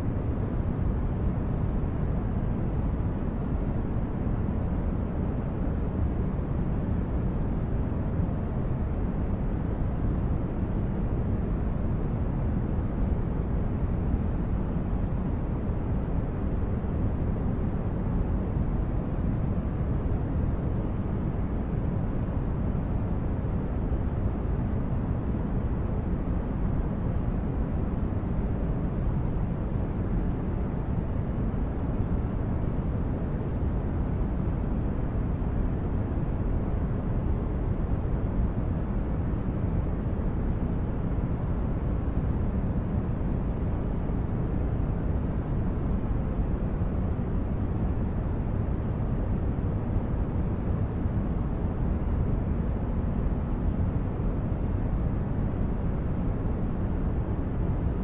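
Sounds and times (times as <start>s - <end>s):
low brown-noise hum: 0.0s - 58.0s.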